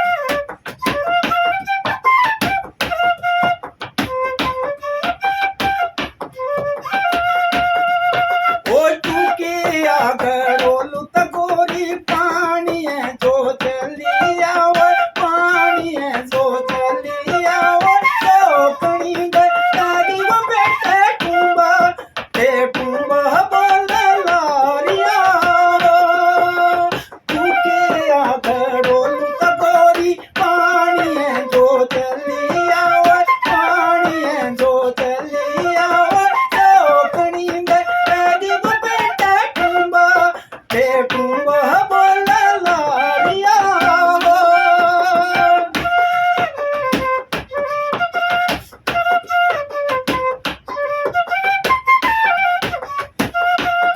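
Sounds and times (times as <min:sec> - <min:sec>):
bamboo flute melody: 0:00.0 - 0:53.9
sharp clicks or taps: 0:00.2 - 0:53.8.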